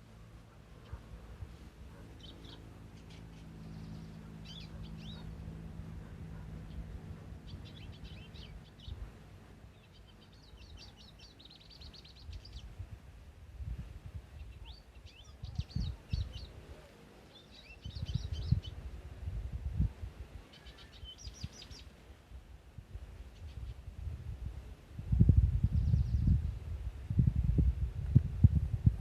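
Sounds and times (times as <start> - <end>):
songbirds chirping: 0.0 - 27.1.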